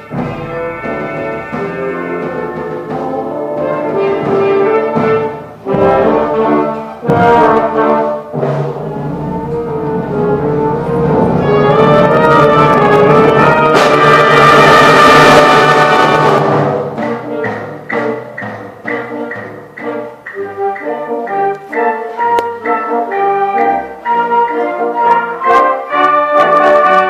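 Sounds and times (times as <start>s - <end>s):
wind band playing: 0.0s - 27.0s.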